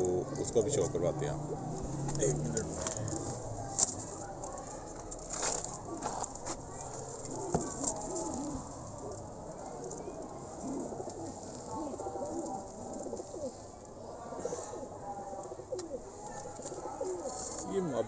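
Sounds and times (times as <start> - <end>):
pigeons cooing: 0.0 - 17.9.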